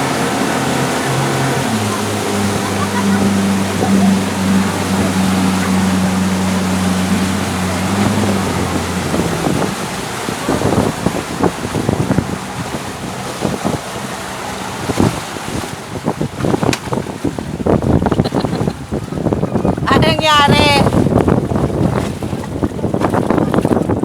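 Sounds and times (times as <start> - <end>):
motorboat engine droning: 0.0 - 24.0
water splashing and sloshing: 0.0 - 24.0
wind buffeting microphone: 0.0 - 24.0.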